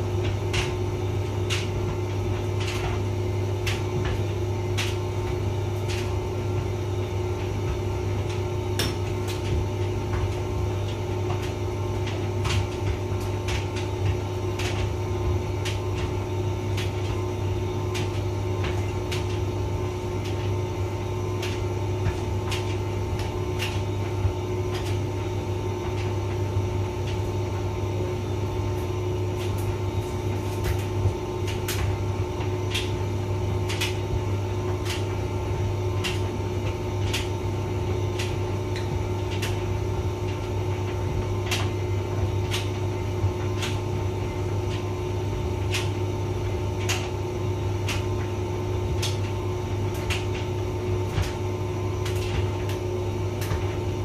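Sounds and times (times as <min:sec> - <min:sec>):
tumble dryer running: 0:00.0 - 0:54.0.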